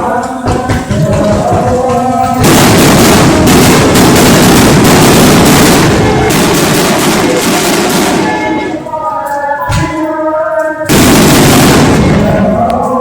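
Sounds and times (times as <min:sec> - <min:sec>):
music: 0:00.0 - 0:04.0, 0:05.8 - 0:13.0
fireworks booms and crackling: 0:00.4 - 0:08.9, 0:10.9 - 0:12.9.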